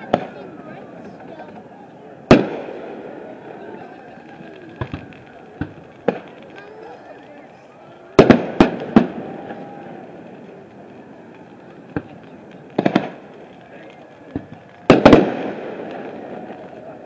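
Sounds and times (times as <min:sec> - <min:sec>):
fireworks bangs with echo: 0:00.0 - 0:01.6, 0:02.2 - 0:17.0.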